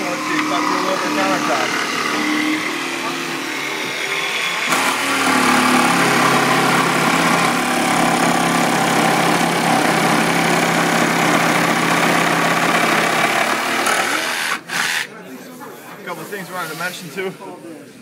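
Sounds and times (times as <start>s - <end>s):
jigsaw cutting: 0.0s - 15.1s.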